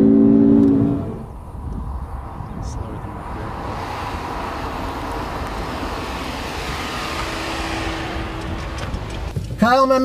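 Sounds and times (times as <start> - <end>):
car engine: 0.0 - 9.4
wind noise: 0.0 - 10.0.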